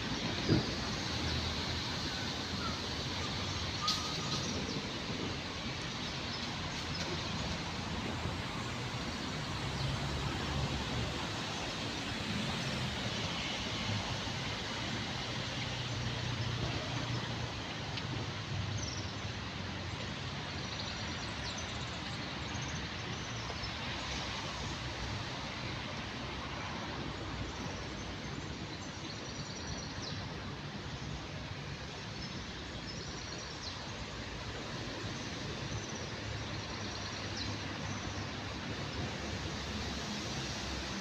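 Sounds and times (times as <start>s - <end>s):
distant traffic rumble: 0.0s - 41.0s.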